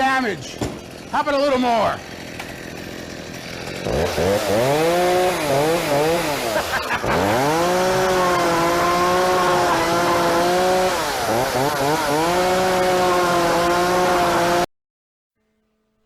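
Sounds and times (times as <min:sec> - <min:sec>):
chainsaw running at high revs: 0:00.0 - 0:14.7.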